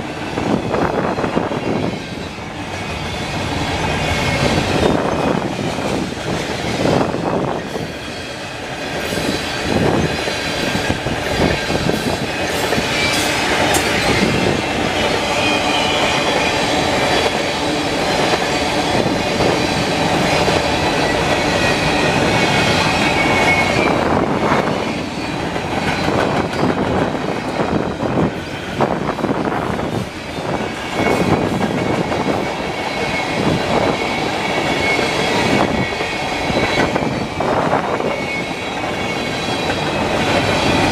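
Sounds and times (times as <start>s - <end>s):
train wheels clattering: 0.0s - 40.9s
wind buffeting microphone: 0.0s - 40.9s
high wheel squeal: 0.4s - 40.9s.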